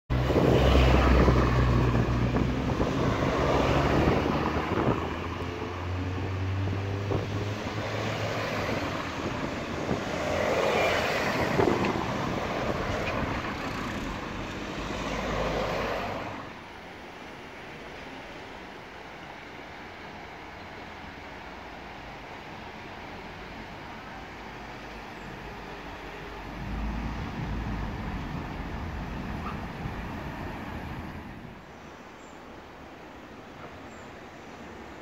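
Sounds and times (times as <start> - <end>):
cars passing: 0.1 - 18.7, 19.4 - 35.0.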